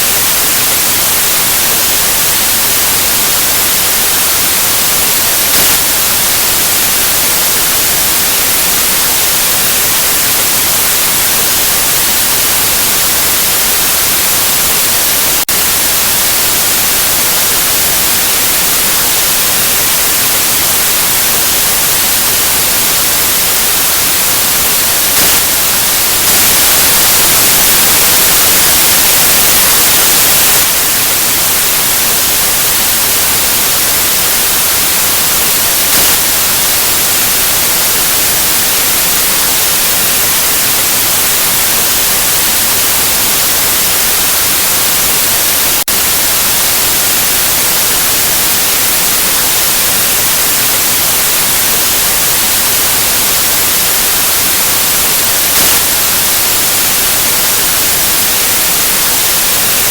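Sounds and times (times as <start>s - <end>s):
electronic white noise: 0.0s - 59.9s.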